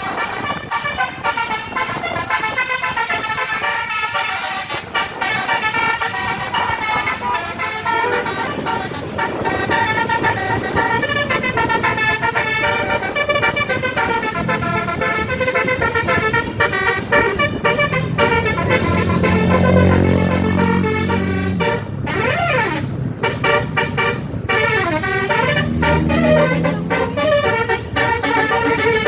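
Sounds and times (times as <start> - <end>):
multi-tone bus horn melody: 0.0 - 29.0.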